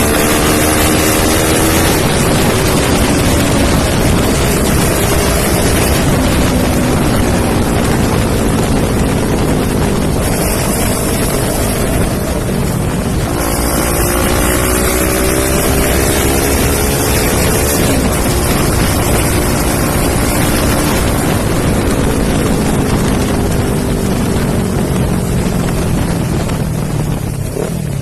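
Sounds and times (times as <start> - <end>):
motorcycle exhaust note: 0.0 - 28.0
wind noise on microphone: 0.0 - 28.0.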